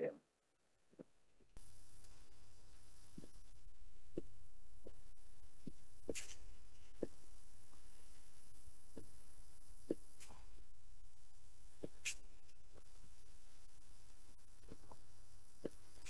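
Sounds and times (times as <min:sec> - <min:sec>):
soft low thumps: 0:00.9 - 0:16.0.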